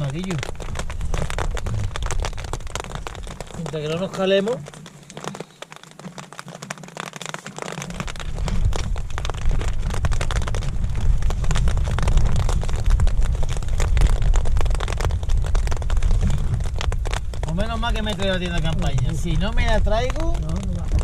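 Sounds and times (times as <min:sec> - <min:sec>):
thunder rumbling: 0:00.0 - 0:05.3, 0:08.0 - 0:21.0
rain pattering on tent fabric: 0:00.0 - 0:21.0.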